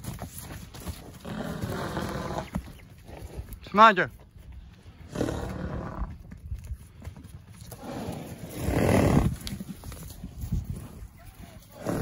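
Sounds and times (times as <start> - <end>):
horses moving on grass: 0.0 - 12.0.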